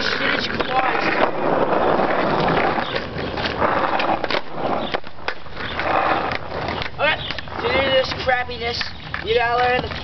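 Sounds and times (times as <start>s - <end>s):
skateboard wheels rolling on asphalt: 0.0s - 10.0s.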